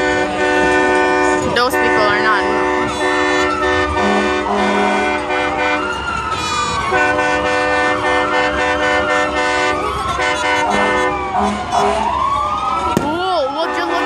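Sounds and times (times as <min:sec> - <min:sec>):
held horn blasts: 0:00.0 - 0:12.2, 0:13.6 - 0:14.0
siren wailing: 0:00.0 - 0:14.0.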